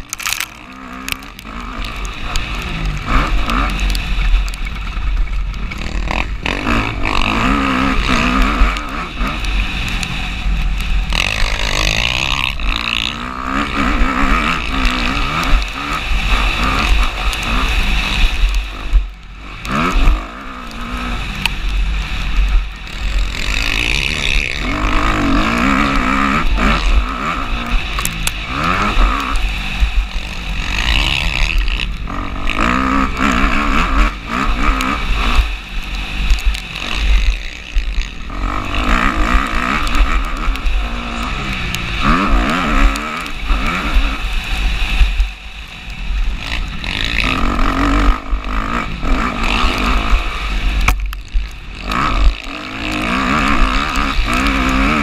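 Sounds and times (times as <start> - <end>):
motocross engine revving: 0.0 - 55.0
wind rumble on microphone: 0.0 - 55.0.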